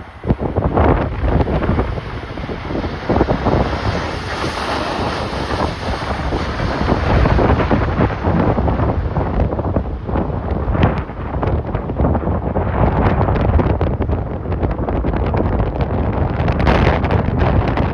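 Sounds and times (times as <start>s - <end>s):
strong wind buffeting microphone: 0.0s - 17.9s.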